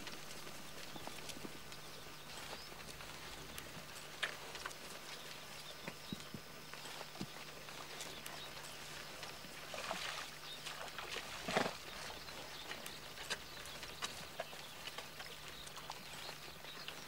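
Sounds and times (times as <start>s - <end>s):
hoof steps on dry mud: 0.0s - 17.0s.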